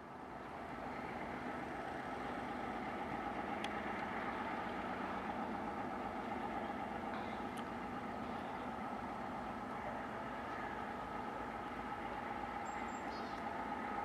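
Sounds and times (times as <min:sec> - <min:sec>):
diesel locomotive engine running: 0:00.0 - 0:14.0.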